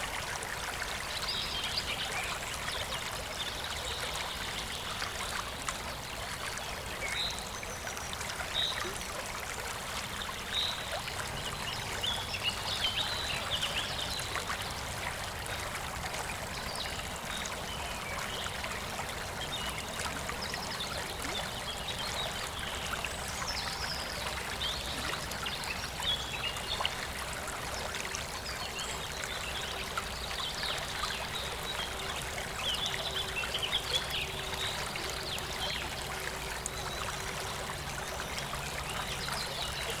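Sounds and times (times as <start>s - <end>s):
stream babbling: 0.0s - 40.0s
water trickles and splashes: 0.0s - 40.0s.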